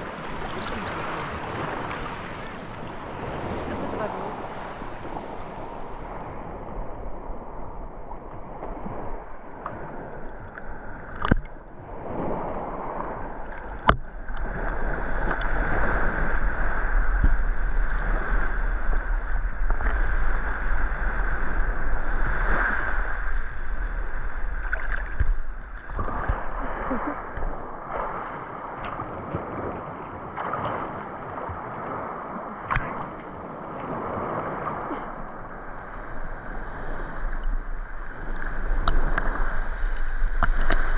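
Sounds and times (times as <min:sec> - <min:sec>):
sea water sloshing: 0:00.0 - 0:40.9.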